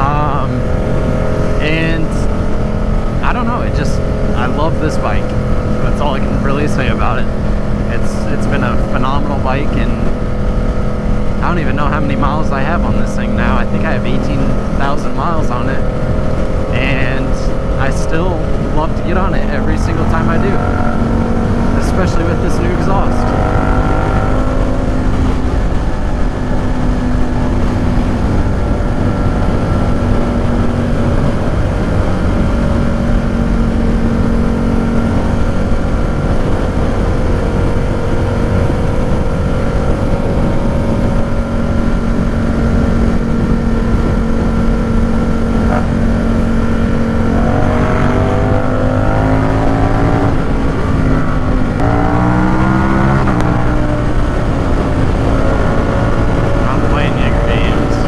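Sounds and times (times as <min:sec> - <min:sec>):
motorcycle engine cruising: 0:00.0 - 0:58.0
wind rush: 0:00.0 - 0:58.0.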